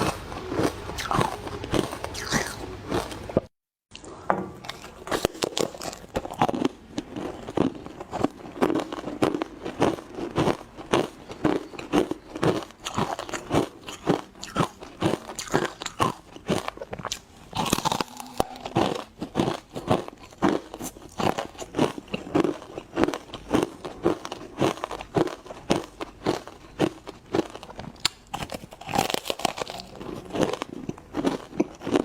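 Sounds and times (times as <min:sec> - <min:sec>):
chewing crunchy ice: 0:00.0 - 0:32.0.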